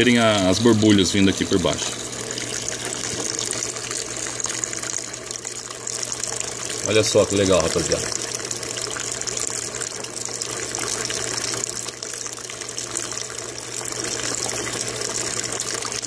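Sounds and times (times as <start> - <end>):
aerator bubbling: 0.0 - 16.0
water pouring and splashing into tank: 0.0 - 16.0.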